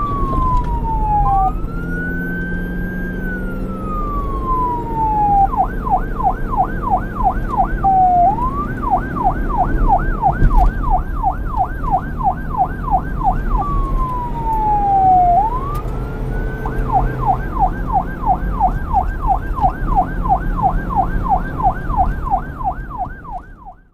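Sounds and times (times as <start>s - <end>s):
police siren yelp and wail: 0.0s - 23.9s.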